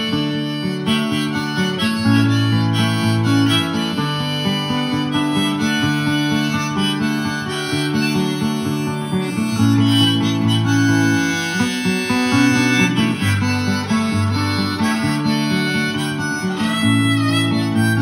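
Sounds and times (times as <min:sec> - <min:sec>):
harmonica: 0:00.0 - 0:18.0
strummed acoustic guitar: 0:00.0 - 0:18.0.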